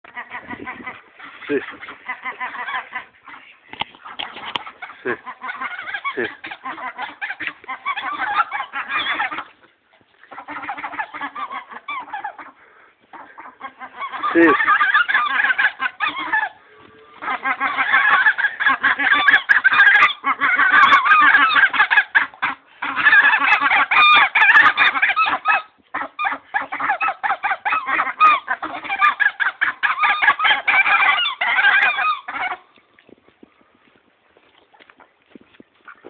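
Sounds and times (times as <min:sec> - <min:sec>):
geese honking: 0:00.1 - 0:32.8.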